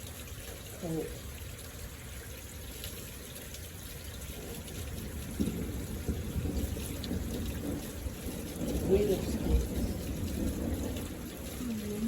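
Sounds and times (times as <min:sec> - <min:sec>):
steady rain: 0:00.0 - 0:12.0
water trickling: 0:00.0 - 0:12.0.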